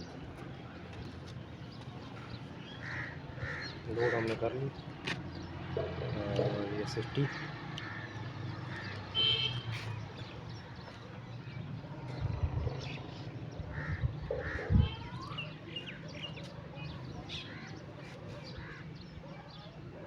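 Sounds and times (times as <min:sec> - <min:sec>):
birds calling: 0:00.0 - 0:19.8.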